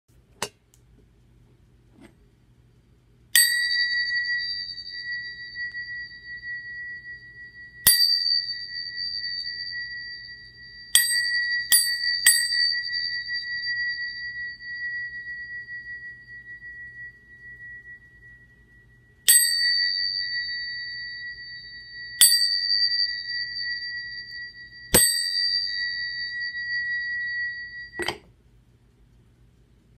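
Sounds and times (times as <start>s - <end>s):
brass candlesticks ringing: 3.4s - 28.2s.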